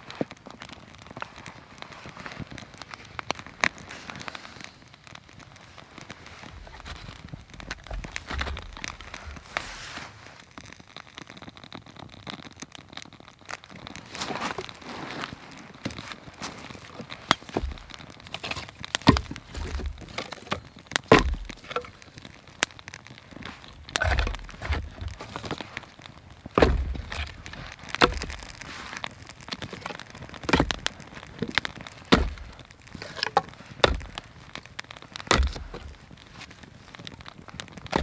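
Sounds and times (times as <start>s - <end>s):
kindling cracking on campfire: 0.0s - 38.0s.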